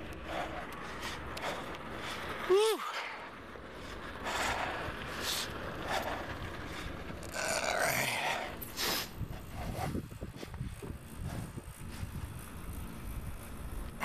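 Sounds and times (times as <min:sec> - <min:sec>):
trailer rattling and scraping: 0:00.0 - 0:14.0
utility cart driving past: 0:00.0 - 0:14.0.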